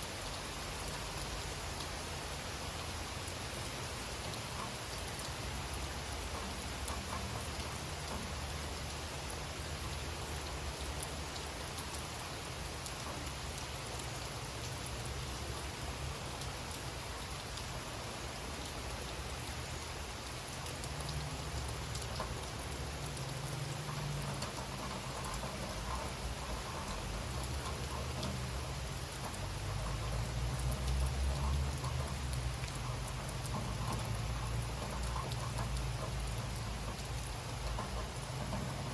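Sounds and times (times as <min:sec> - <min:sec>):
rain hissing in a forest: 0:00.0 - 0:38.9
raindrops ticking: 0:00.0 - 0:38.9.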